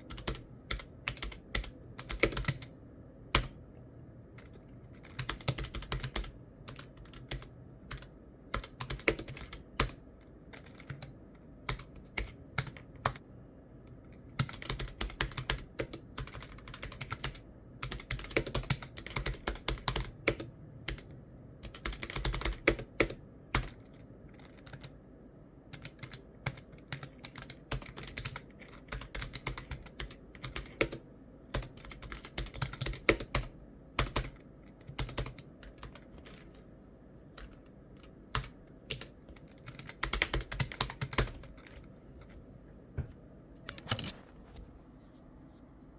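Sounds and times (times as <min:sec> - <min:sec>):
typing on a keyboard: 0:00.0 - 0:02.7, 0:03.3 - 0:03.6, 0:04.4 - 0:13.2, 0:13.9 - 0:25.0, 0:25.7 - 0:36.6, 0:37.4 - 0:42.3.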